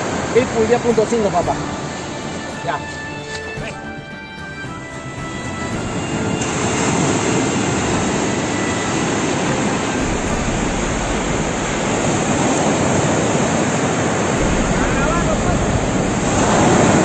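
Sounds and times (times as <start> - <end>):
surf washing onto beach: 0.0 - 3.0, 5.3 - 17.0.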